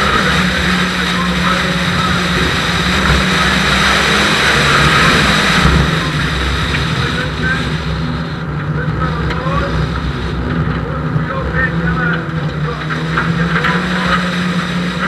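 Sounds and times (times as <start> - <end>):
rally car engine running hard: 0.0 - 15.0
road and wind noise: 0.0 - 15.0.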